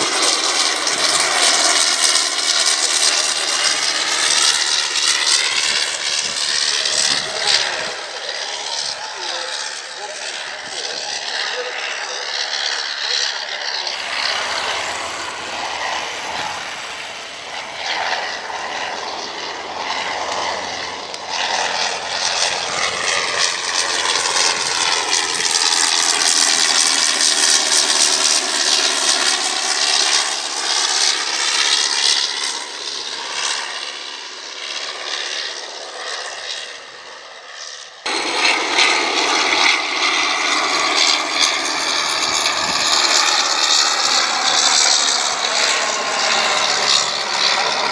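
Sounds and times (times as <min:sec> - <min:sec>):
aircraft flying past: 0:00.0 - 0:47.9.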